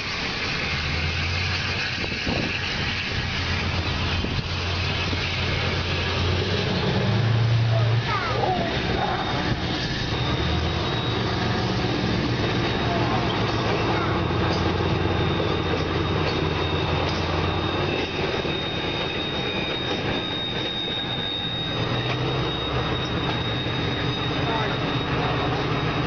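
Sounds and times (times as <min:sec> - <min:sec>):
faint high whine: 0:00.0 - 0:26.0
low hum: 0:00.0 - 0:26.0
train rumble: 0:00.0 - 0:26.0.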